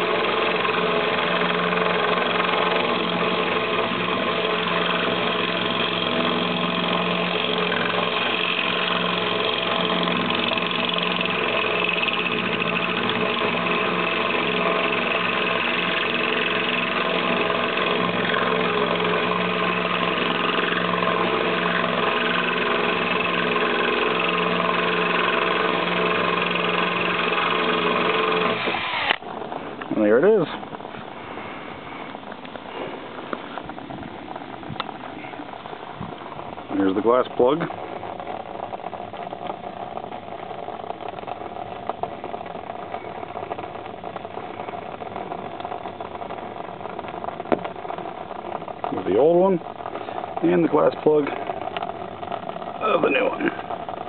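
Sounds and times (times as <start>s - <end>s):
drill grinding through glass: 0.0s - 32.9s, 36.1s - 54.0s.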